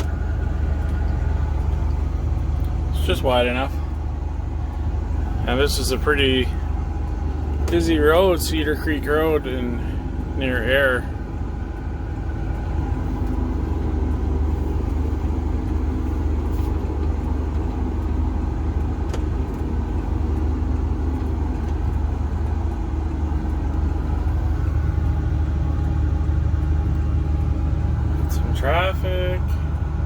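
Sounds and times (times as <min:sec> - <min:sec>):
harvester engine droning: 0:00.0 - 0:30.0.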